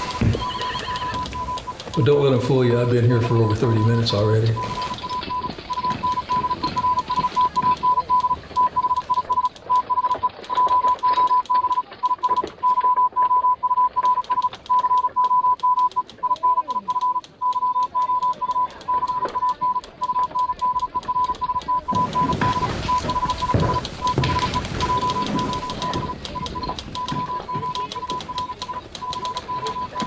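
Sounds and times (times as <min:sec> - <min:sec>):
morse code beeps: 0:00.0 - 0:30.0
rapid clicking: 0:00.0 - 0:30.0.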